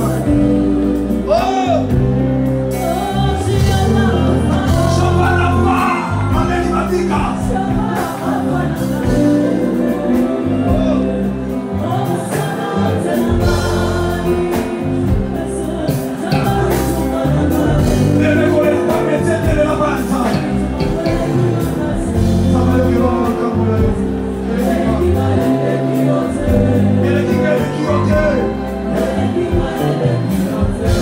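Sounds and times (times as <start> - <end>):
choir singing gospel: 0.0 - 31.0
deep bass notes: 0.0 - 31.0
drums: 0.0 - 31.0.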